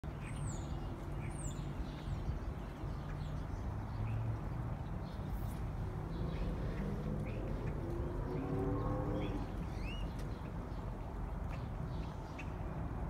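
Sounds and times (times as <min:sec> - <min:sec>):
small birds chirping: 0:00.1 - 0:12.9.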